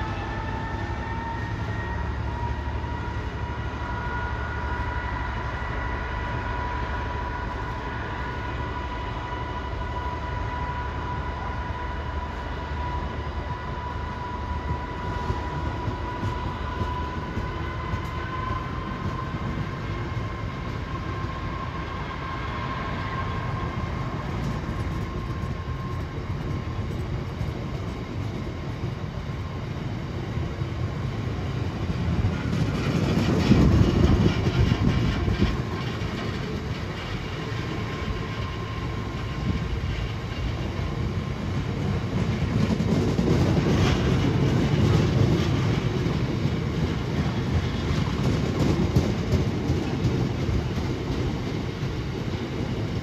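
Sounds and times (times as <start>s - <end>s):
train wheels rumbling and clattering: 0.0s - 53.0s.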